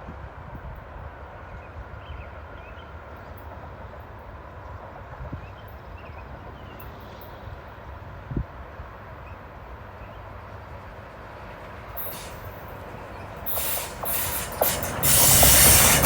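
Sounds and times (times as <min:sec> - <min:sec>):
distant diesel locomotive rumble: 0:00.2 - 0:16.0.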